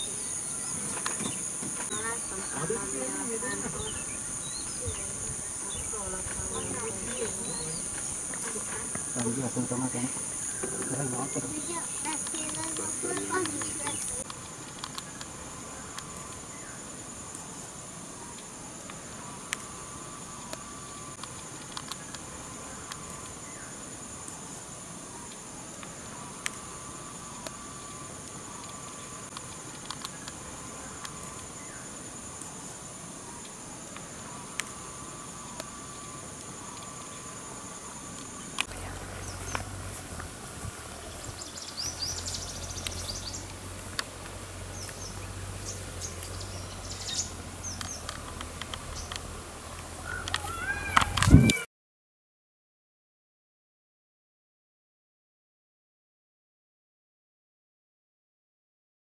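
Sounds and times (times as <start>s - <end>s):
birds chirping and twittering: 0.0s - 51.6s
insect chorus buzzing: 0.0s - 51.7s.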